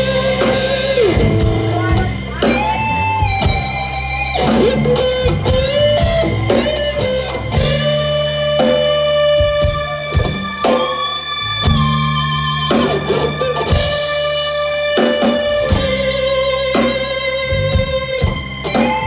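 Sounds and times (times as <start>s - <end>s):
rock band playing: 0.0s - 19.0s
sustained electric guitar notes: 0.0s - 19.0s.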